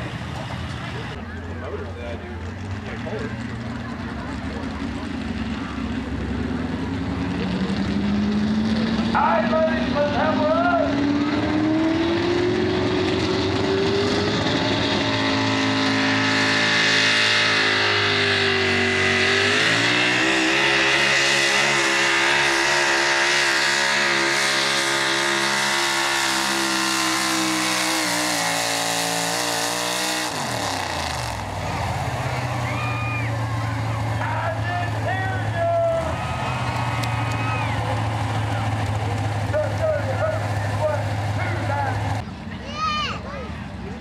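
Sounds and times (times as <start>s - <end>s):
truck engine at full throttle: 0.0s - 44.0s.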